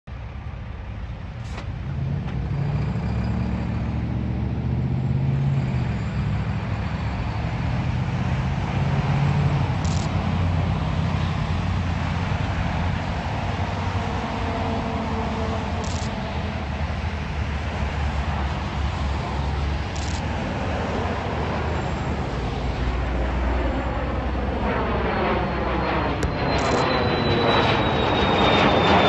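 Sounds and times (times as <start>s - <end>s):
diesel truck engine hum: 1.2s - 24.7s
cars passing: 1.6s - 29.0s.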